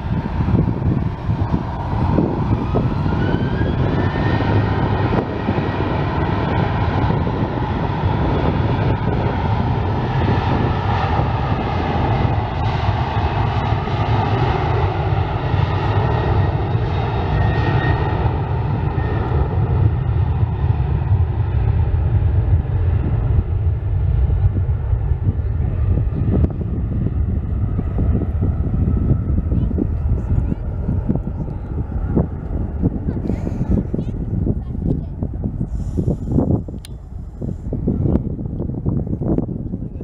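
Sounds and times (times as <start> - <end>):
jet engines roaring at takeoff: 0.0 - 40.0.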